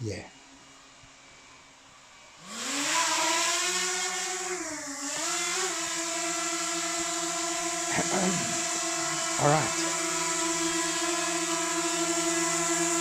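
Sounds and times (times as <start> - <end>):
drone propeller motors whining: 0.0 - 13.0.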